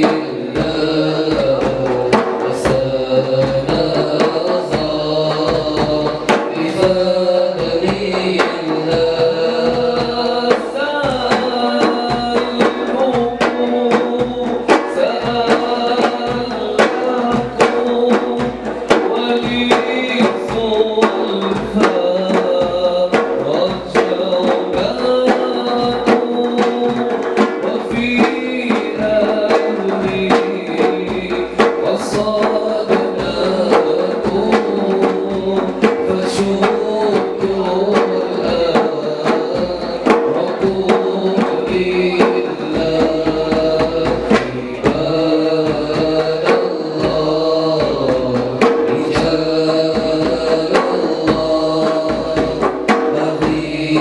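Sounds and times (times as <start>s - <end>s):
frame drums beating: 0.0s - 54.0s
man singing into a microphone: 0.0s - 54.0s.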